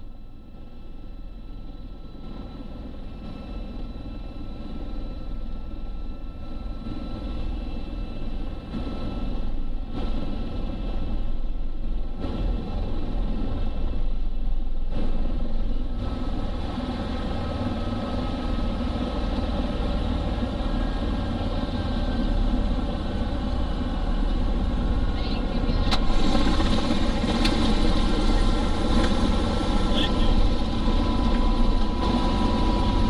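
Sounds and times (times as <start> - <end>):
helicopter rotor drone: 0.0 - 33.0.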